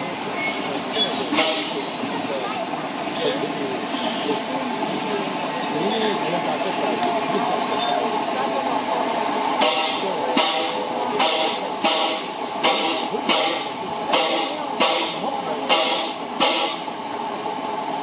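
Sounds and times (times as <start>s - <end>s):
steam hissing: 0.0s - 18.0s
steam locomotive chuffing: 0.0s - 18.0s.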